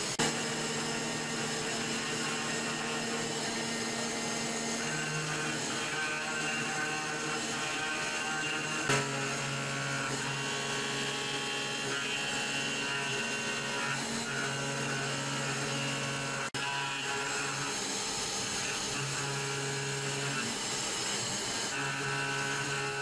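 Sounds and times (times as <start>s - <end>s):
milling machine whining: 0.0s - 23.0s.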